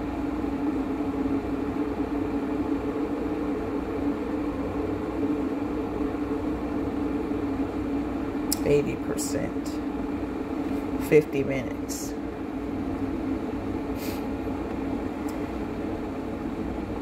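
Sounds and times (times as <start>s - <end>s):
cooling fan running: 0.0s - 17.0s
electric kettle boiling: 0.0s - 17.0s.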